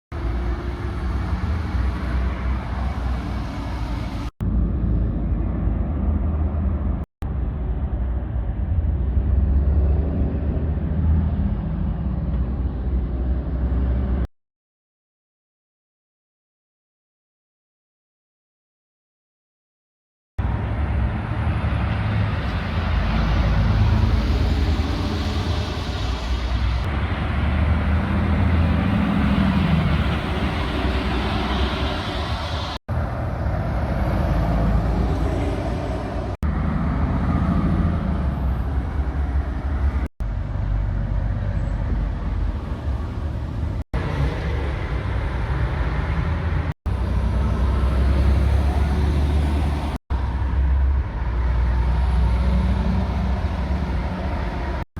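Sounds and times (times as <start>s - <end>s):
lorries driving past: 0.2s - 14.3s, 20.4s - 54.9s.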